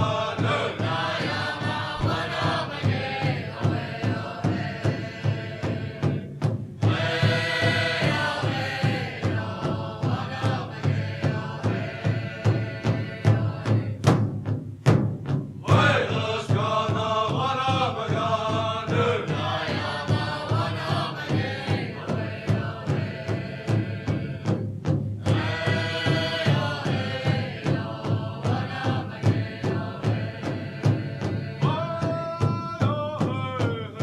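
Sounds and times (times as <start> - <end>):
group singing in unison: 0.0 - 14.4, 15.6 - 34.0
steady drumbeat: 0.0 - 34.0.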